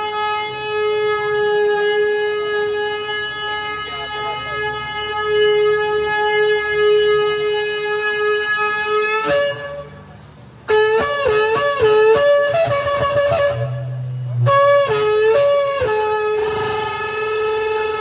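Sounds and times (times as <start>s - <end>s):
shofar blasts: 0.0s - 10.0s, 10.7s - 18.0s.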